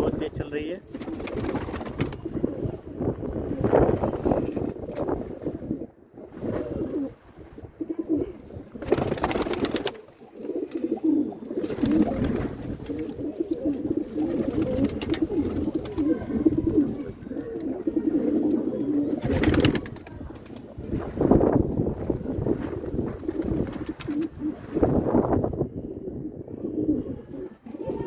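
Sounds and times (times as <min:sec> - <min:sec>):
pigeons cooing: 0:00.9 - 0:28.0.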